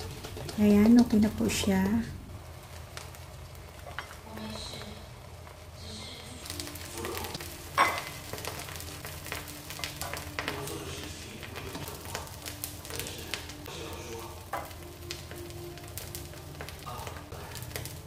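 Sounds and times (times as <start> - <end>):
sauce sizzling in a wok: 0.0 - 18.0.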